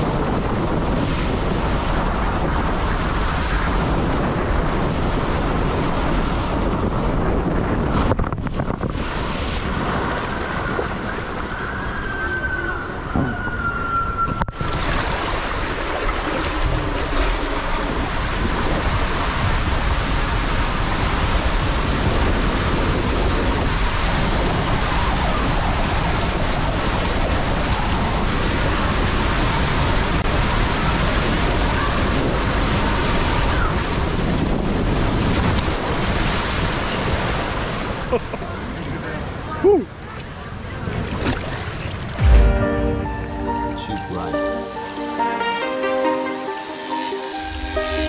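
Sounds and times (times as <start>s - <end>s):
water rushing down waterslide: 0.0s - 42.2s.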